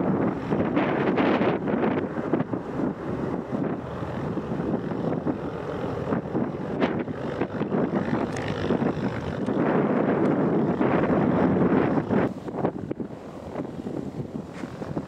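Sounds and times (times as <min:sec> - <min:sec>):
jet engine roar: 0:00.0 - 0:15.0
wind buffeting microphone: 0:00.0 - 0:15.0.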